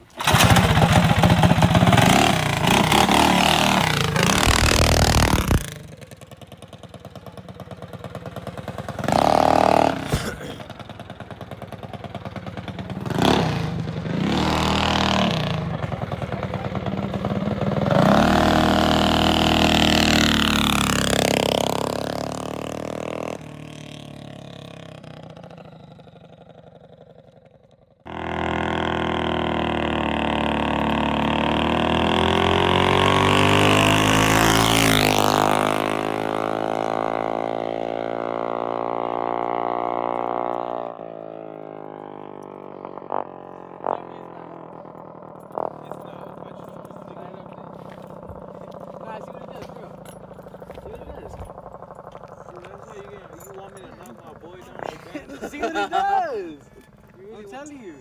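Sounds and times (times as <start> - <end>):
minibike engines revving: 0.0 - 27.5, 28.1 - 58.0.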